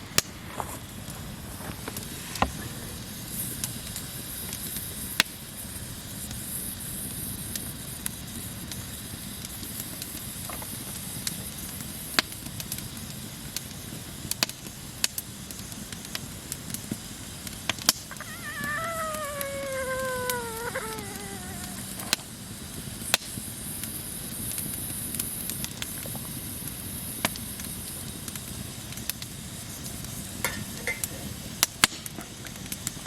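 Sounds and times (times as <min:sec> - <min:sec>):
water boiling hiss: 0:00.0 - 0:33.0.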